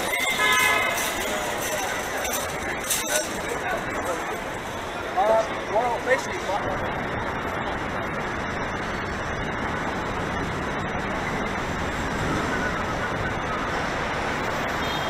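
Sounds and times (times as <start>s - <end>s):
city street traffic hum: 0.0s - 15.0s.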